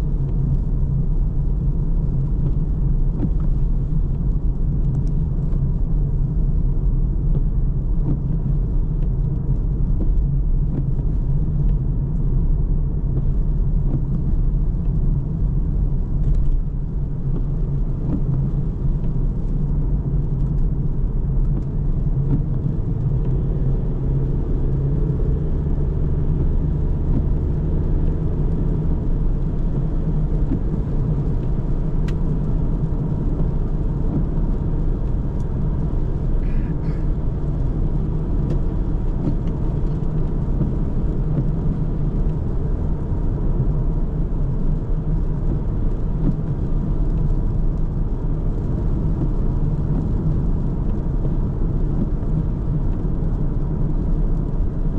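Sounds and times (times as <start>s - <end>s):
car tyres and engine rumble: 0.0s - 54.9s.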